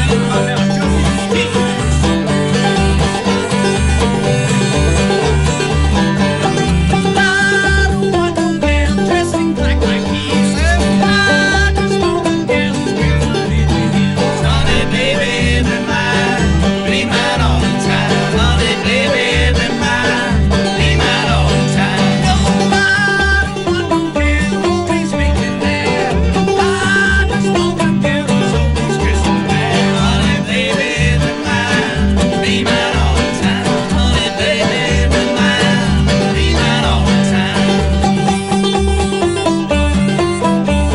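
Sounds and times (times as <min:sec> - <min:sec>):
acoustic guitar: 0:00.0 - 0:40.9
banjo: 0:00.0 - 0:40.9
upright bass plucking: 0:00.0 - 0:40.9.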